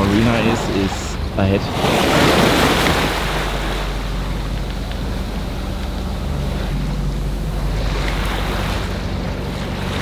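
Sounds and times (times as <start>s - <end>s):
low steady drone: 0.0s - 10.0s
water rushing along hull: 0.0s - 10.0s
wind buffeting microphone: 0.0s - 10.0s.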